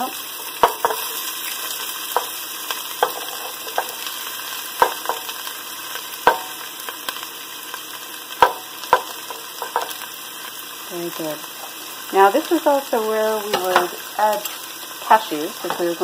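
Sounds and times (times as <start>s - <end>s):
ginger and onion sizzling in oil: 0.0s - 16.0s.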